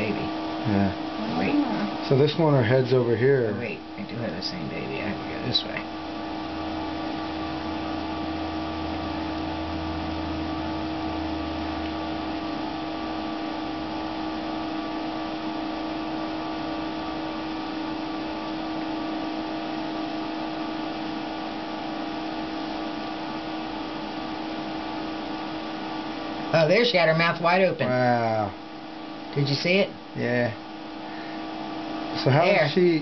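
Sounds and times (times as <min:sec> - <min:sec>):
electrical hum and hiss: 0:00.0 - 0:33.0.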